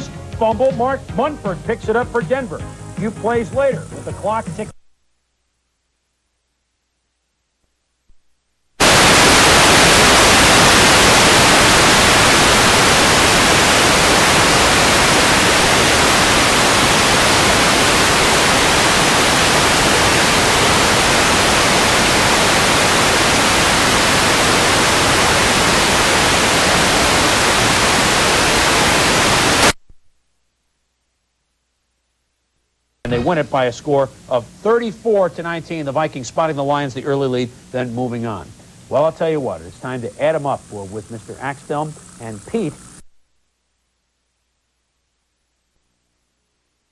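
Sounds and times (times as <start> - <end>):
tv static hiss: 0.0 - 46.9.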